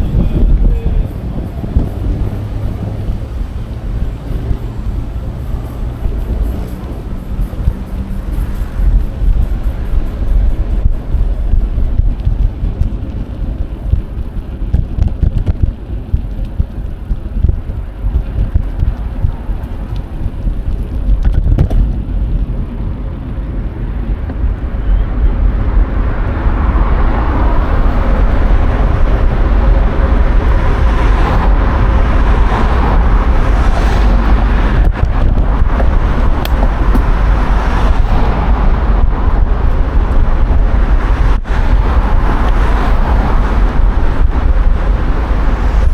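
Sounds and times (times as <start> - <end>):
road traffic: 0.0 - 45.9
wind noise on microphone: 0.0 - 45.9.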